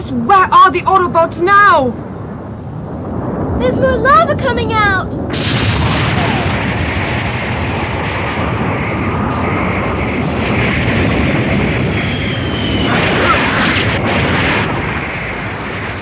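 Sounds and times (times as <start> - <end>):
jet rushing noise: 1.9 - 16.0
volcano rumbling roar: 2.0 - 16.0.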